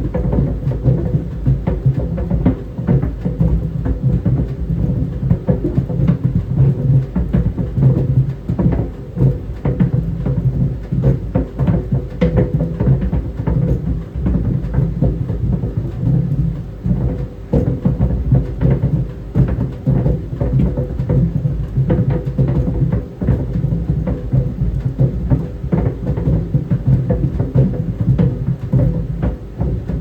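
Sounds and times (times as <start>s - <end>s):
clothes dryer rumble: 0.0s - 30.0s
tennis balls thumping in dryer drum: 0.0s - 30.0s.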